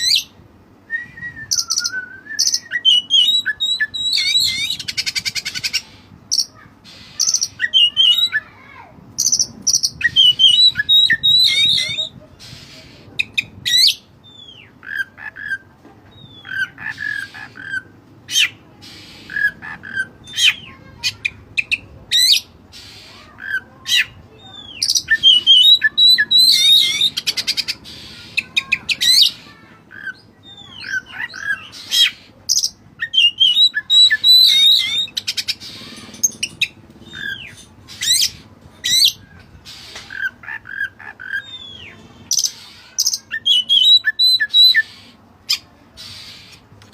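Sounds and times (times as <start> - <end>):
bird singing varied song: 0.0 - 8.6, 9.2 - 46.9.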